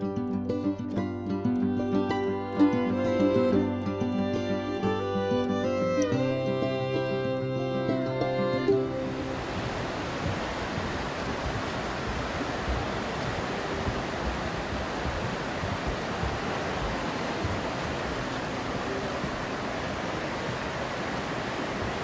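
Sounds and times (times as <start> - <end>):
river rushing through gorge: 0.4 - 22.0.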